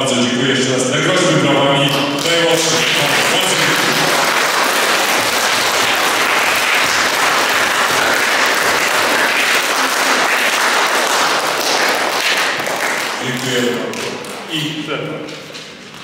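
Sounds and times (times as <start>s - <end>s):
audience applauding: 1.8s - 14.8s.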